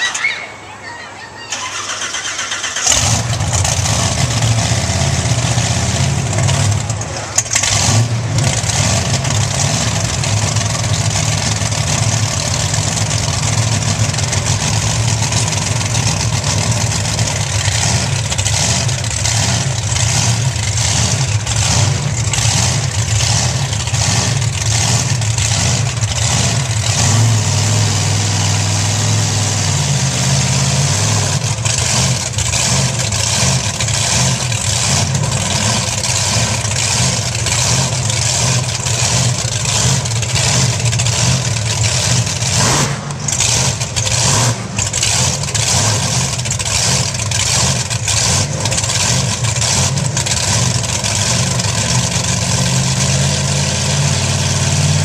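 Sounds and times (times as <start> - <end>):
truck engine starting and idling: 0.0 - 55.0.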